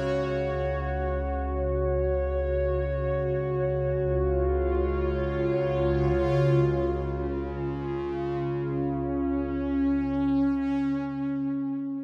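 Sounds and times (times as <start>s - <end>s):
ambient synthesizer pad: 0.0s - 12.0s.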